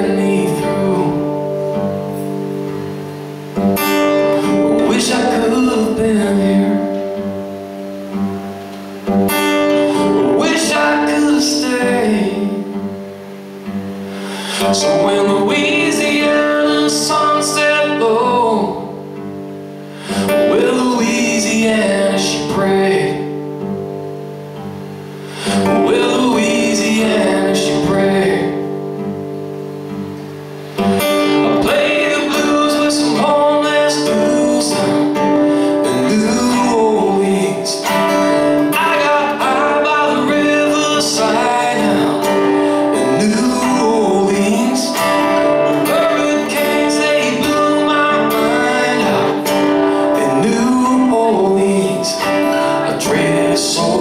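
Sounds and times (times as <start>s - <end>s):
man singing: 0.0s - 2.3s, 4.1s - 7.2s, 9.6s - 13.0s, 14.2s - 19.0s, 20.0s - 23.5s, 25.3s - 28.8s, 31.2s - 54.0s
acoustic guitar strumming: 0.0s - 54.0s.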